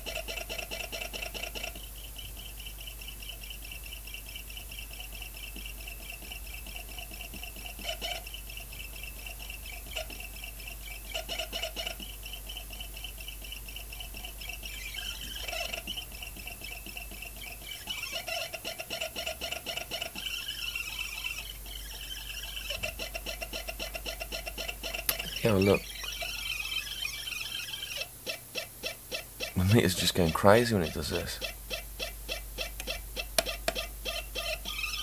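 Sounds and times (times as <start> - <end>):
fast chattering pulses: 0.0 - 35.0.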